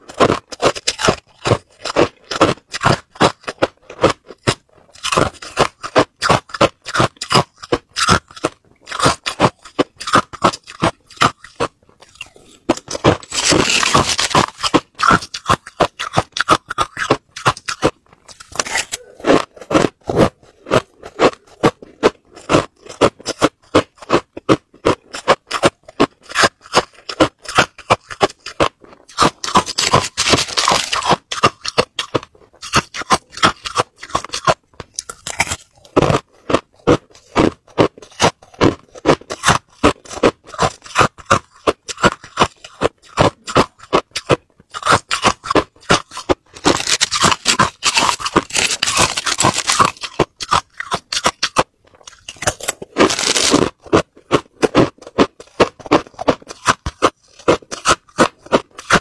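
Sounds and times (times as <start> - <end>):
crushed ice crunched between teeth: 0.0 - 59.0.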